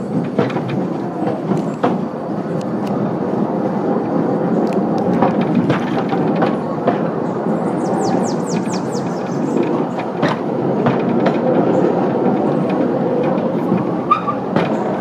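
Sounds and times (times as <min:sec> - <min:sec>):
mine train rumbling on rails: 0:00.0 - 0:15.0
wheels clicking on track: 0:00.0 - 0:15.0.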